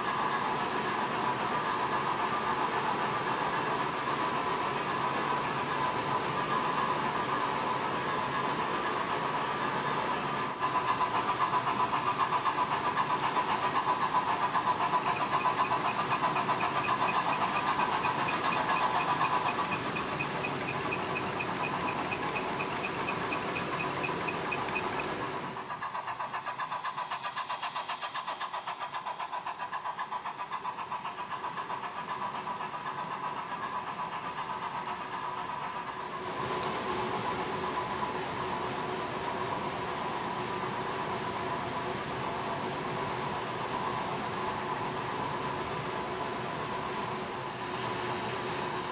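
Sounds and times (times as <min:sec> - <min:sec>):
model trains whirring and clattering: 0:00.0 - 0:48.9.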